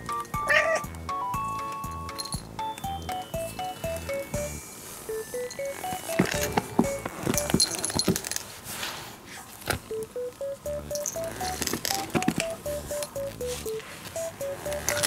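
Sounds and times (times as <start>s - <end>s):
light background music: 0.0s - 8.1s, 9.9s - 15.0s.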